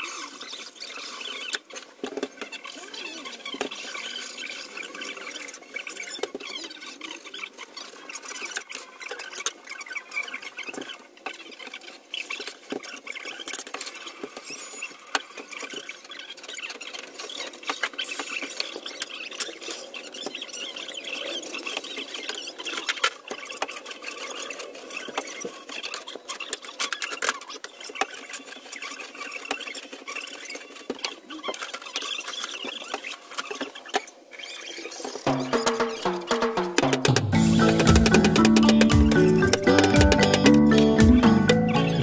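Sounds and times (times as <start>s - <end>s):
squeaky scraping: 0.0s - 42.0s.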